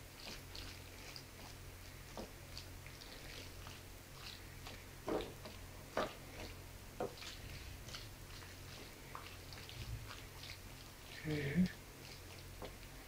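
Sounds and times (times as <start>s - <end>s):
utensil mashing food on a plate: 0.0s - 13.0s.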